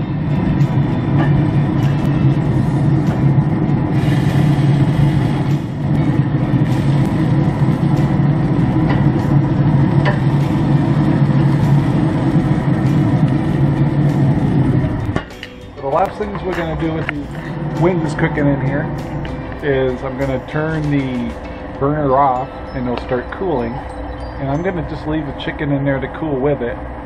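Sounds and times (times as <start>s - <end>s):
grill fan hum: 0.0s - 27.0s.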